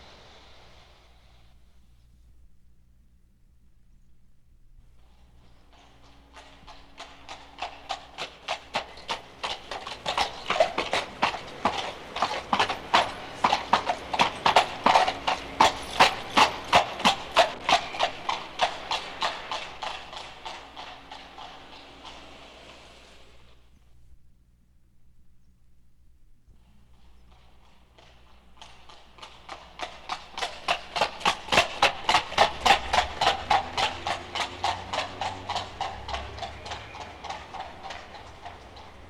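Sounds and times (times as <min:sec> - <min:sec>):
horse hooves clip-clopping on street: 0:04.8 - 0:23.8, 0:26.5 - 0:39.0.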